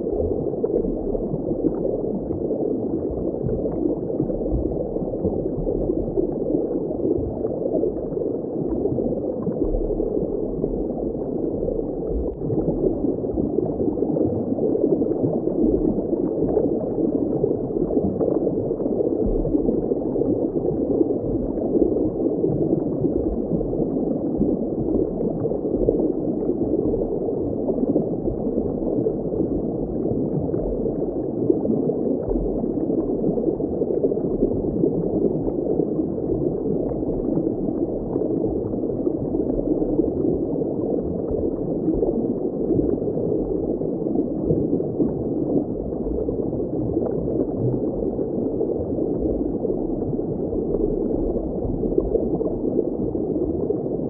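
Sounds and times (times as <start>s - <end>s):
muffled underwater water wash: 0.0s - 54.0s.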